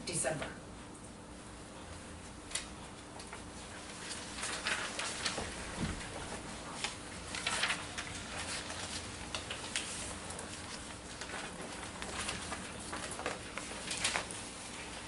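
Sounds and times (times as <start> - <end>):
low room hum: 0.0 - 15.0
faint clicks and rustles: 1.9 - 15.0.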